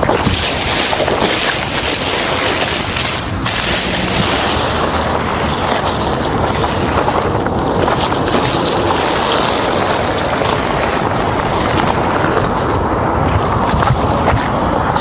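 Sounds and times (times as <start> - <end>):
tent fabric rustling: 0.0 - 15.0
wind buffeting microphone: 0.0 - 15.0.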